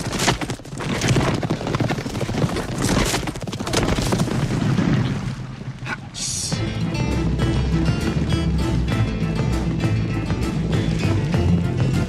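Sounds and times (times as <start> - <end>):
horses galloping: 0.0 - 12.0.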